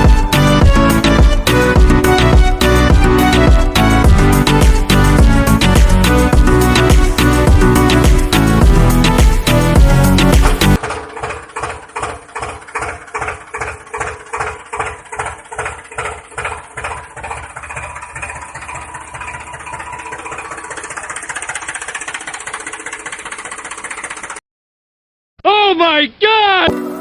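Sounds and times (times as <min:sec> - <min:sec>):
tractor engine chugging: 0:00.0 - 0:24.4.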